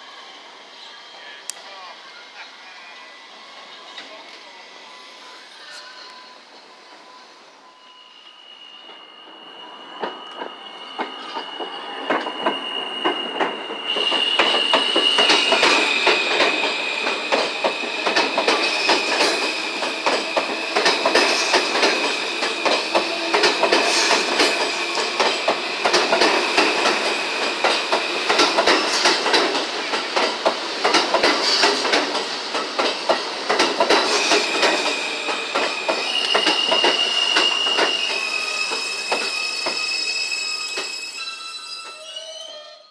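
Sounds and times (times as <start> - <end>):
subway train running: 0.0 - 42.9
train wheels squealing: 2.8 - 32.3, 33.0 - 42.9.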